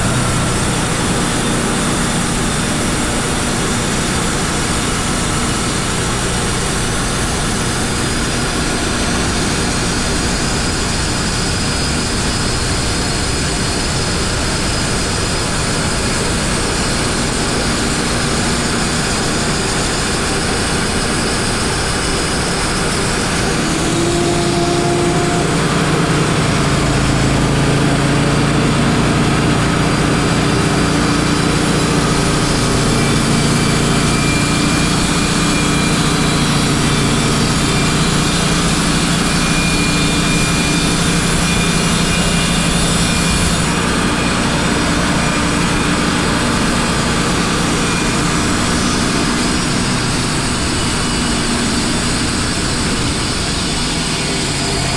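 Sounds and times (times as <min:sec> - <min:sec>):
band sawmill cutting a log: 0:00.0 - 0:54.9.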